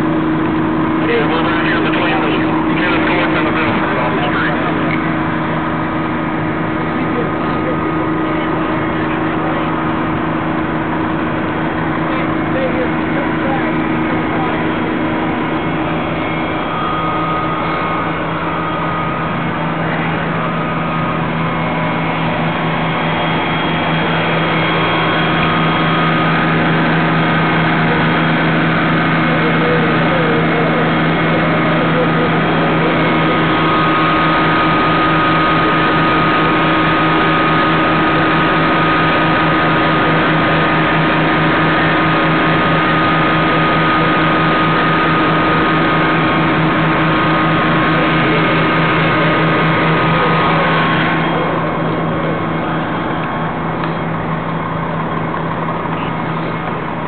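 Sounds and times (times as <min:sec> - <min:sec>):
fire engine motor running: 0:00.0 - 0:57.0.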